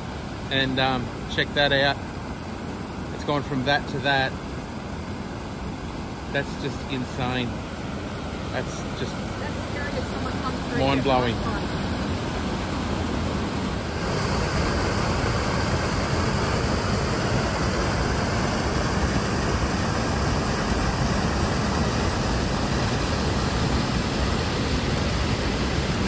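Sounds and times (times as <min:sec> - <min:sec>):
floodwater pouring and churning: 0:00.0 - 0:26.0.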